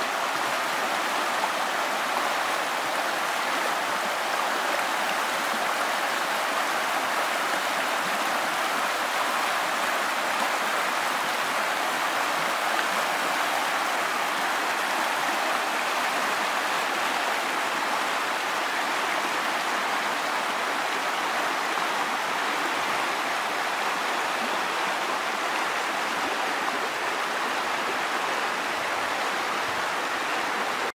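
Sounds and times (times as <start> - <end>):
river rushing over rocks: 0.0 - 30.9.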